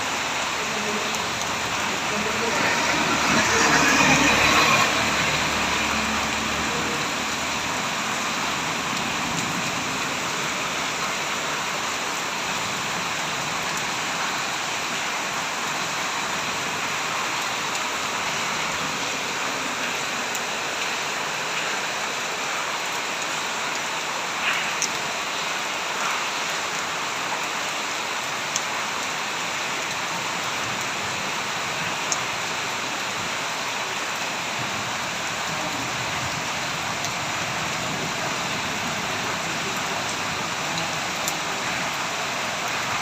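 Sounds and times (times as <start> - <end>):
heavy rain hissing: 0.0 - 43.0.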